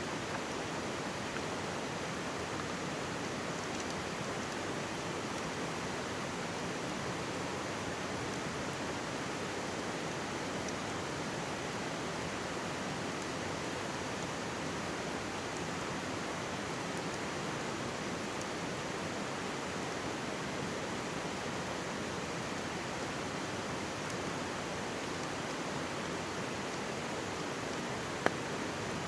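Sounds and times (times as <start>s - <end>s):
campfire crackles: 0.2s - 19.0s, 20.0s - 29.0s.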